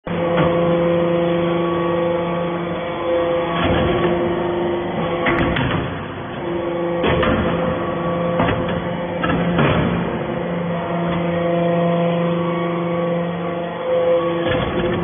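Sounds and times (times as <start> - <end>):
hydraulic press humming: 0.1 - 15.0.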